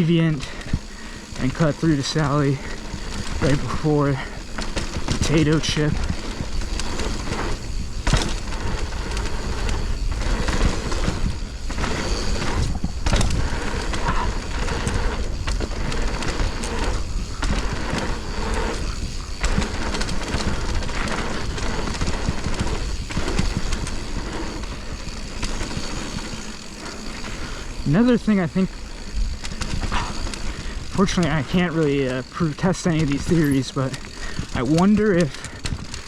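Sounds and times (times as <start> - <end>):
tyre noise on dirt: 0.0 - 36.0
bike knocks and rattles: 0.1 - 36.0
wind buffeting microphone: 0.6 - 32.0.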